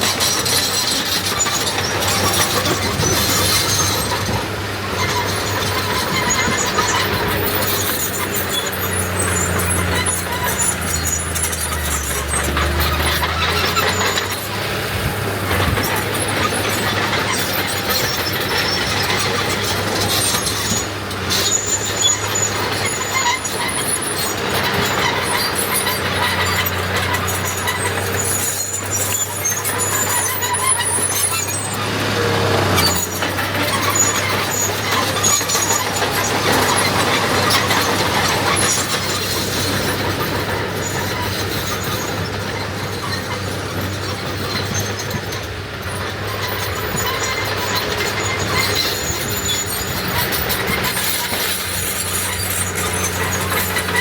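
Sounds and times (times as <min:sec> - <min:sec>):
diesel engine running: 0:00.0 - 0:54.0
metal squealing and clanking: 0:00.0 - 0:54.0.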